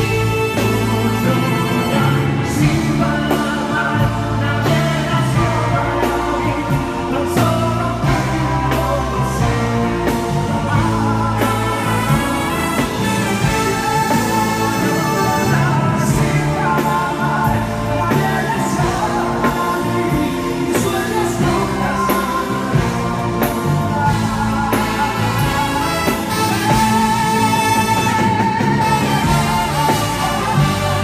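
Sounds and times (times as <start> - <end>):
live band playing: 0.0 - 31.0
man singing into microphone: 0.0 - 31.0
saxophone and brass section: 0.0 - 31.0
steady drum beat: 0.0 - 31.0.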